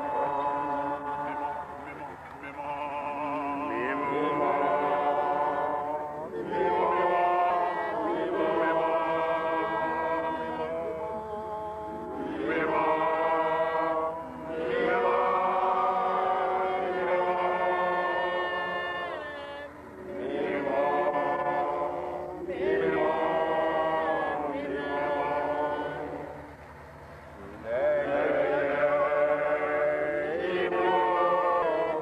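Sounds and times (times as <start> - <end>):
chanted singing: 0.0 - 26.6, 27.4 - 32.0.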